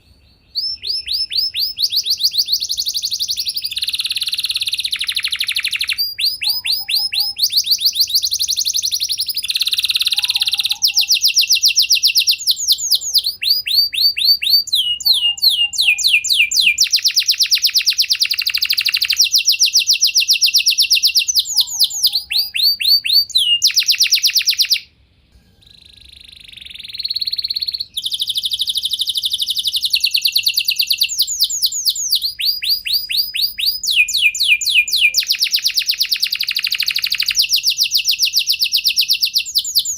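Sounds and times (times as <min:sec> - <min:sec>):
canary singing trills: 0:00.0 - 0:24.9, 0:25.6 - 0:39.9.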